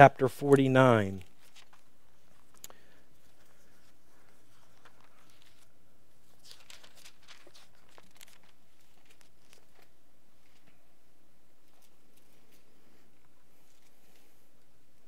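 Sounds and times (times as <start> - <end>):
paper pages rustling: 1.2 - 10.8, 11.6 - 14.3.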